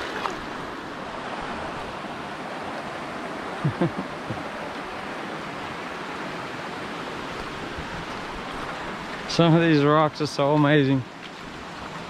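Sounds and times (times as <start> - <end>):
river water flowing over rocks: 0.0 - 12.0.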